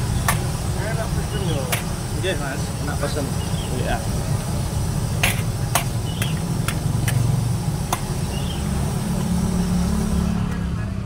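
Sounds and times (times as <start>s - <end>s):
steady low rumble: 0.0s - 10.1s.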